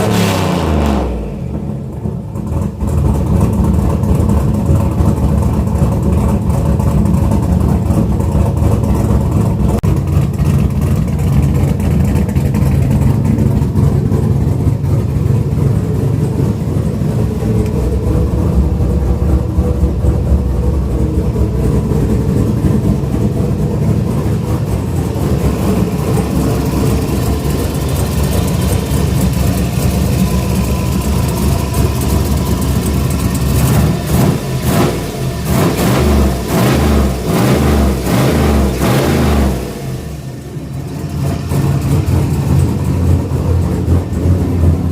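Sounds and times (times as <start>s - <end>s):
engine idling deep rumble: 0.0s - 44.9s.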